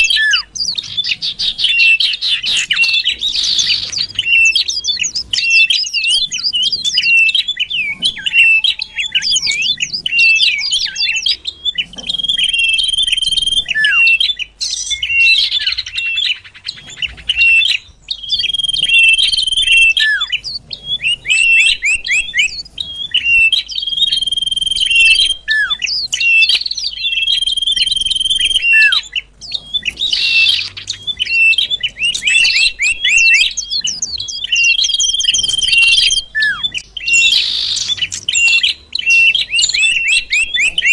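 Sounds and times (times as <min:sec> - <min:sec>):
bird chirping and whistling: 0:00.0 - 0:40.9.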